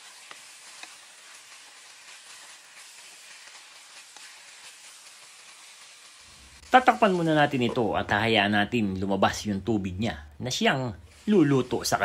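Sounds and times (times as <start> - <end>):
chicken sizzling in oil: 0.0 - 9.8, 10.5 - 12.0.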